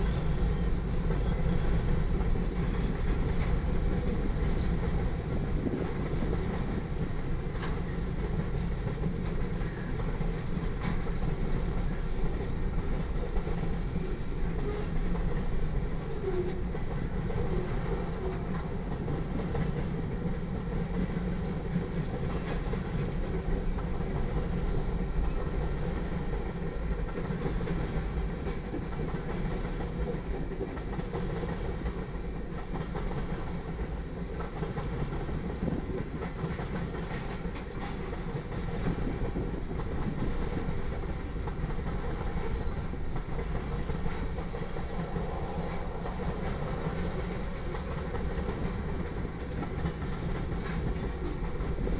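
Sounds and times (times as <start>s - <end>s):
steel wheels rumbling on rails: 0.0s - 51.9s.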